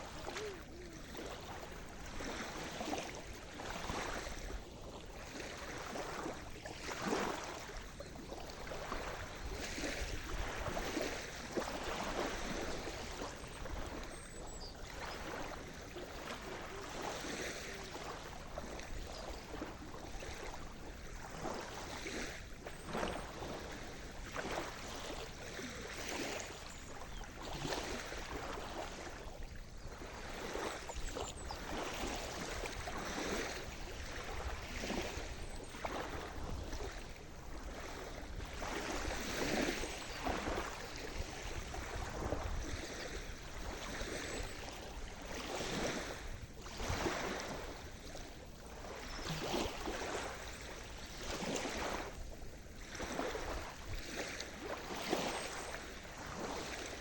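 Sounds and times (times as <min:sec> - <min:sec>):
water splashes: 0:00.0 - 0:57.0.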